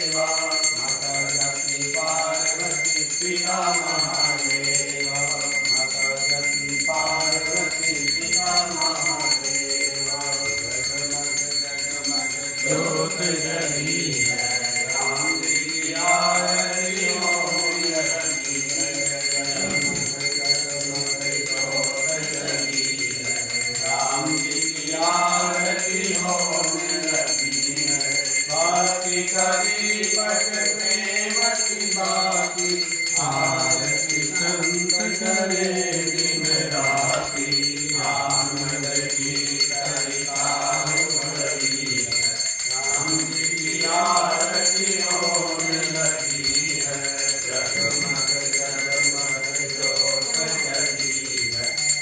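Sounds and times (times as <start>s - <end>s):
group singing a hymn: 0.0s - 52.0s
hand bell ringing: 0.0s - 52.0s.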